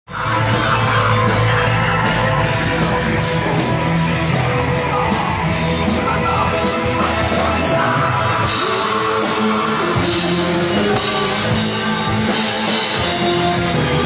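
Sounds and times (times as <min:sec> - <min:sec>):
loud rock music: 0:00.1 - 0:14.0.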